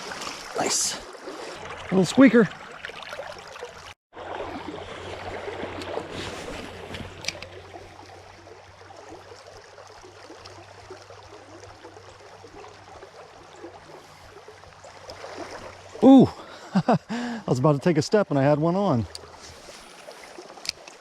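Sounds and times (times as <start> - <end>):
creek water gurgling: 0.0 - 21.0.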